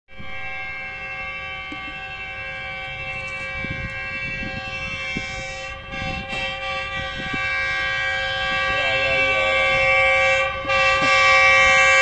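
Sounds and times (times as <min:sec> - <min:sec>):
locomotive horn: 0:00.1 - 0:12.0
low train rumble: 0:00.1 - 0:12.0.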